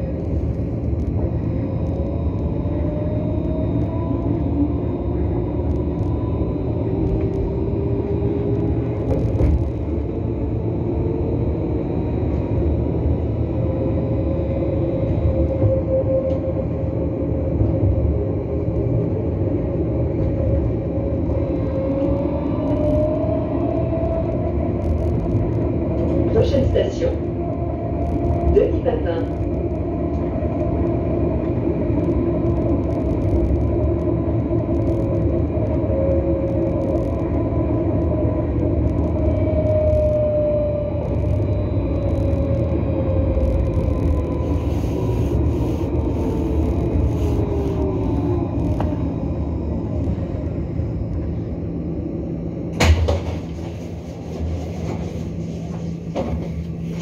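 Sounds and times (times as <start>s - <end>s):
tram drive whine: 0.0s - 57.0s
tram running rumble: 0.0s - 57.0s.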